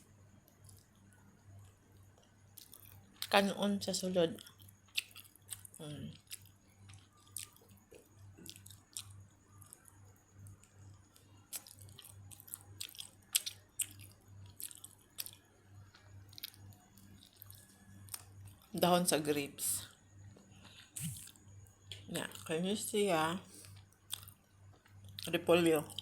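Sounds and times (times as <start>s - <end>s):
faint low hum: 0.0s - 26.0s
person chewing food: 0.5s - 3.3s, 4.4s - 18.7s, 20.2s - 22.5s, 23.5s - 26.0s.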